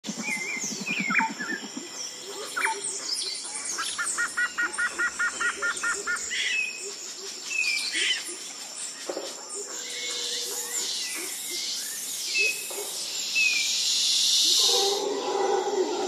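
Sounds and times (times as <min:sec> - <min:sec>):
birds chirping and calling: 0:00.1 - 0:16.0.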